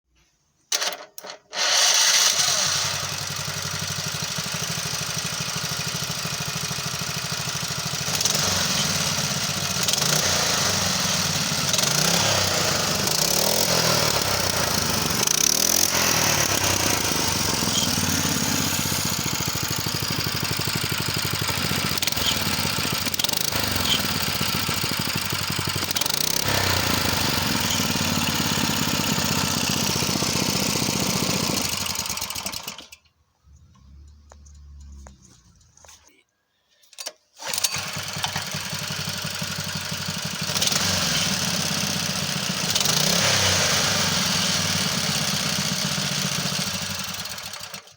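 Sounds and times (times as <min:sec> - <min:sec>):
small engine running: 0:00.7 - 0:33.0, 0:37.4 - 0:47.9
small engine cranking: 0:00.7 - 0:33.1, 0:37.0 - 0:47.9.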